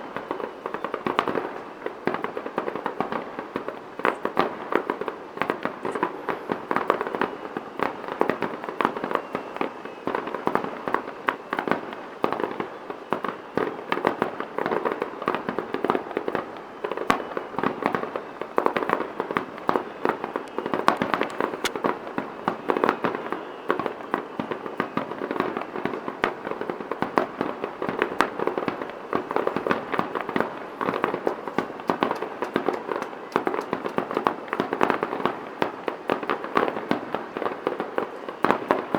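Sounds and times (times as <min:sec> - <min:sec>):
fireworks crackling and popping: 0:00.0 - 0:38.9.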